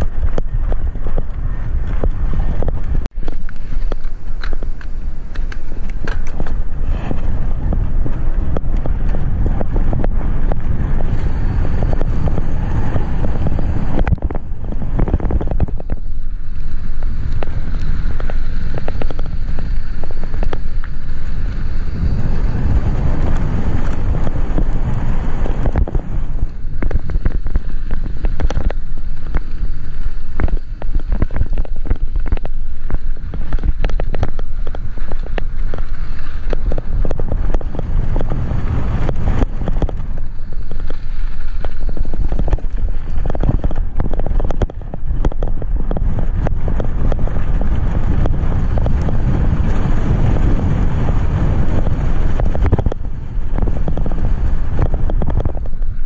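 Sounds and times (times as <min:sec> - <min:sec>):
bike clicks and rattles: 0:00.0 - 0:56.0
tyres rumbling on gravel: 0:00.0 - 0:56.0
wind on camera microphone: 0:00.0 - 0:56.0.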